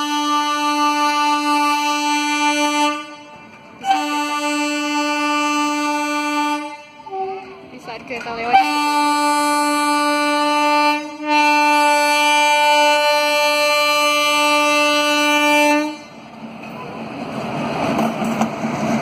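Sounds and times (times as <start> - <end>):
train horn blasts: 0.0 - 16.3
train rumbling over track: 0.0 - 19.0.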